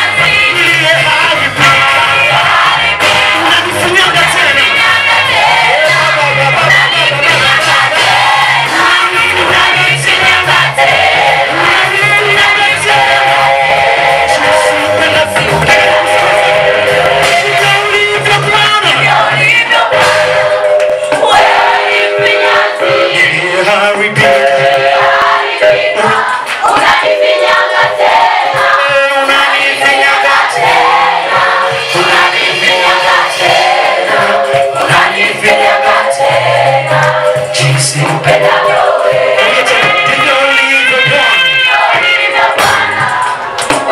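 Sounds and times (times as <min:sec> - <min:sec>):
choir singing in harmony: 0:00.0 - 0:43.9.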